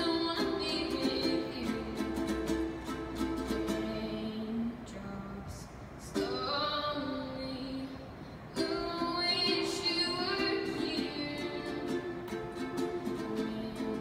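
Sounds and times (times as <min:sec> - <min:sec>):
ukulele strumming: 0:00.0 - 0:04.8, 0:06.0 - 0:07.9, 0:08.5 - 0:14.0
girl singing: 0:00.0 - 0:14.0.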